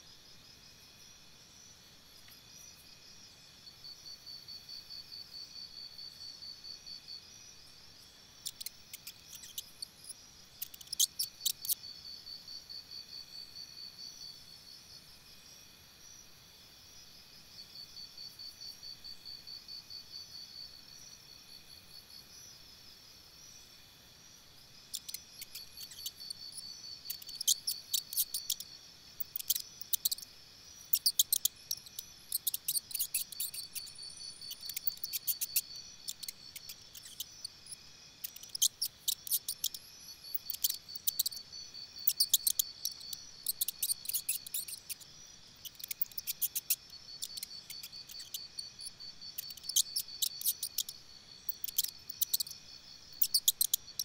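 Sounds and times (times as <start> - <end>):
insects chirping: 0.0 - 54.0
steady high insect trill: 0.0 - 54.0.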